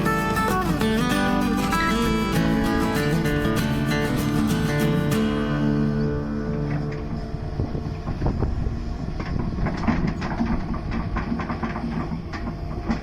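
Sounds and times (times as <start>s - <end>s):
excavator engine rumble: 0.0s - 13.0s.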